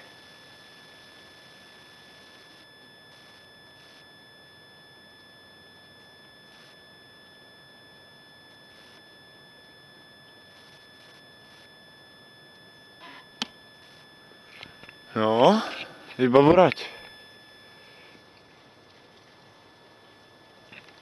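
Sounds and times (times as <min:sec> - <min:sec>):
high-pitched electronic whine: 0:00.0 - 0:21.0.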